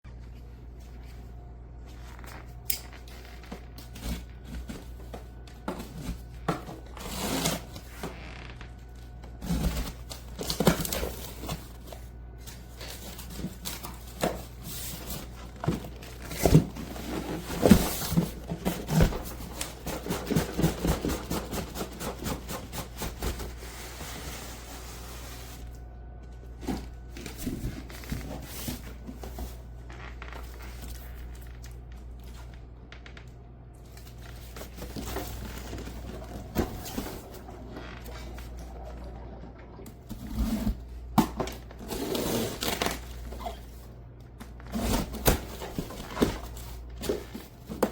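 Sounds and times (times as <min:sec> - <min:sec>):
steady low hum: 0:00.1 - 0:47.9.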